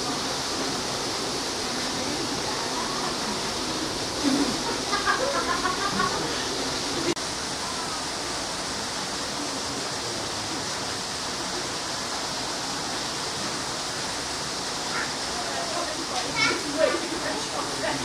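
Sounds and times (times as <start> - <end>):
steady rushing hiss: 0.0 - 18.0.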